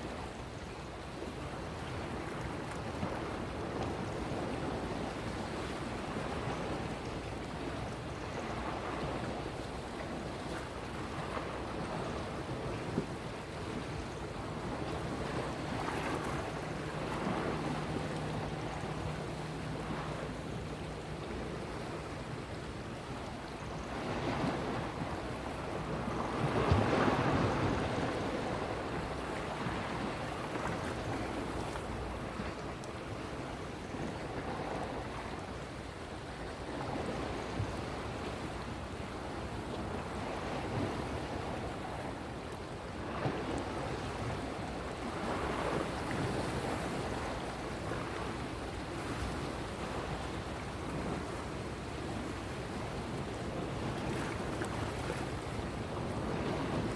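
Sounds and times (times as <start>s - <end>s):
sea waves washing in: 0.0s - 56.9s.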